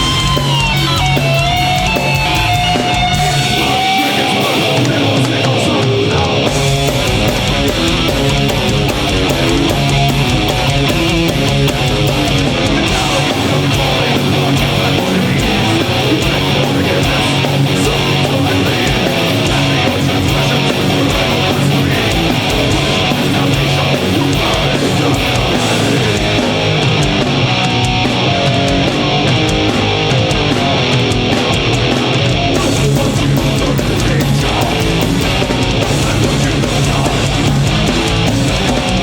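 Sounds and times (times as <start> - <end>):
bass guitar: 0.0 - 39.0
distorted electric guitars: 0.0 - 39.0
drums: 0.0 - 39.0.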